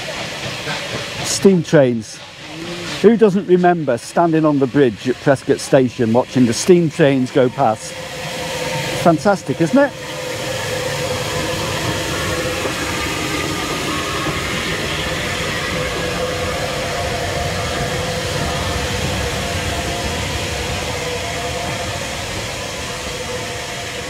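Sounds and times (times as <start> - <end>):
steam locomotive wheels rumbling: 0.0 - 24.0.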